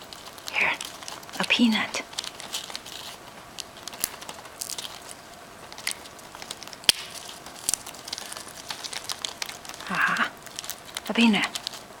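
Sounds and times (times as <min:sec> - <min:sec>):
birds cracking peanut shell: 0:00.0 - 0:12.0.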